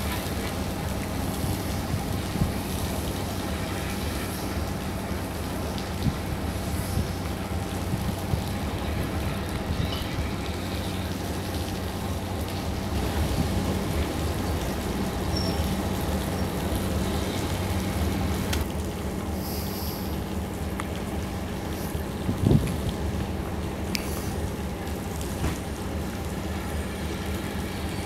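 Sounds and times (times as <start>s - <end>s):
train engine idling: 0.0s - 28.0s.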